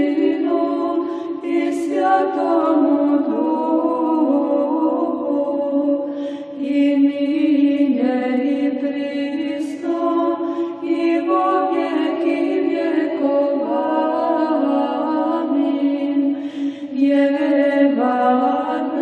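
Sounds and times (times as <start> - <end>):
choir chanting long notes: 0.0 - 19.0.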